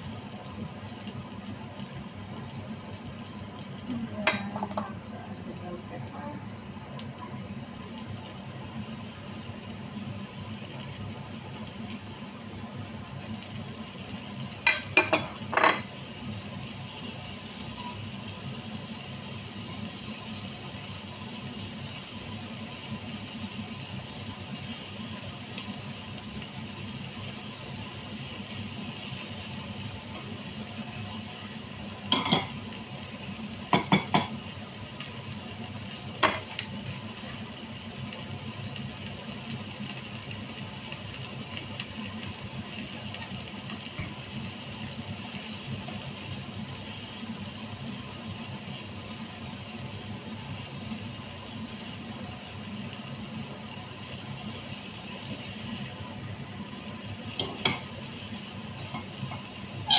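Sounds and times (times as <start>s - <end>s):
vegetables sizzling in a frying pan: 0.0s - 59.9s.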